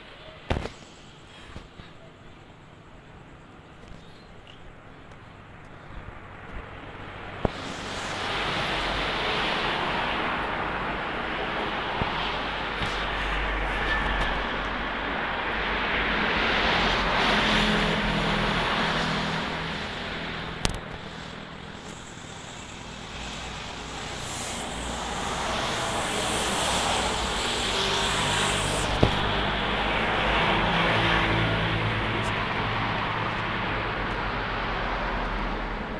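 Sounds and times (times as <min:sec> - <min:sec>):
storm wind gusting: 0:06.7 - 0:35.9.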